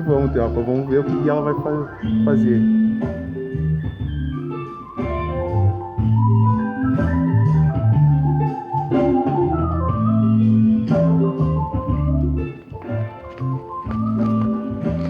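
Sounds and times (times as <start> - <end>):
electronic organ chords: 0.0 - 15.0
steady bass line: 0.0 - 15.0.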